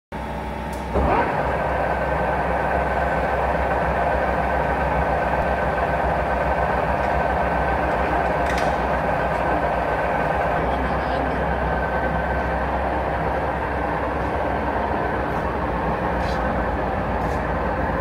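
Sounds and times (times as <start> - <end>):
lathe running with gear whine: 0.2 - 18.0.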